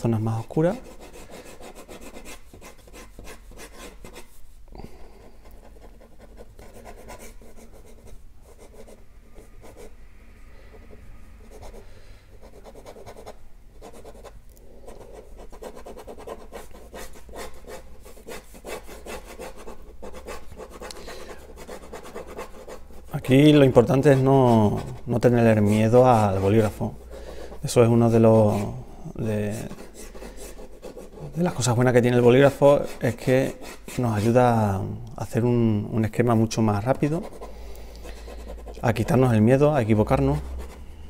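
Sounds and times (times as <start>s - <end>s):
pen scratching on paper: 0.7s - 4.5s, 5.5s - 9.9s, 12.4s - 34.4s, 36.9s - 40.8s.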